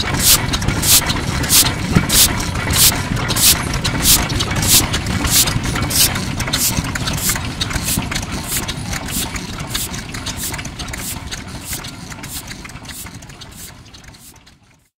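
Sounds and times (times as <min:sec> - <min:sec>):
diesel engine puffing slowly: 0:00.0 - 0:14.9.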